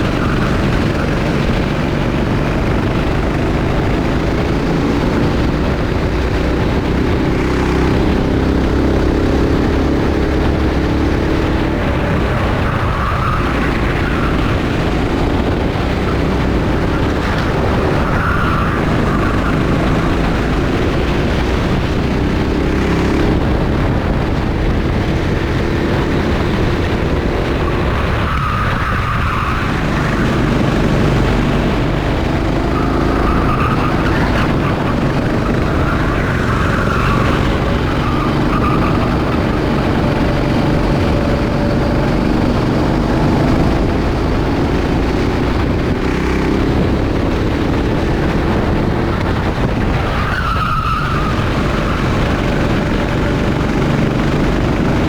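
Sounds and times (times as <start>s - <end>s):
kart engine accelerating: 0.0s - 55.0s.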